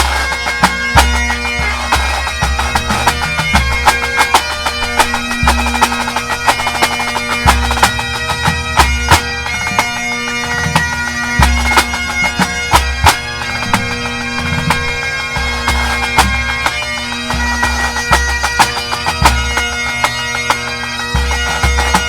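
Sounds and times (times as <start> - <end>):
bagpipes playing fast tune: 0.0 - 22.0.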